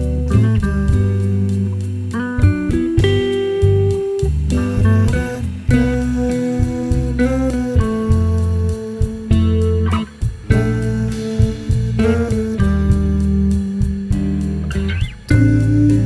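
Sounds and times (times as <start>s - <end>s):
guitar-led music with bass: 0.0s - 16.0s.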